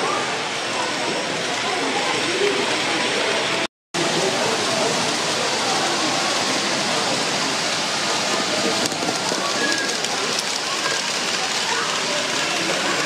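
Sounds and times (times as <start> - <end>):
indistinct visitor chatter: 0.0 - 13.0.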